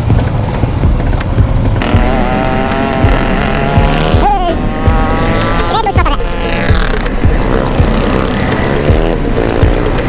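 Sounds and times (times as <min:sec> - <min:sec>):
motorcycle engines rumbling: 0:00.0 - 0:10.0
steady pitched tone: 0:00.7 - 0:10.0.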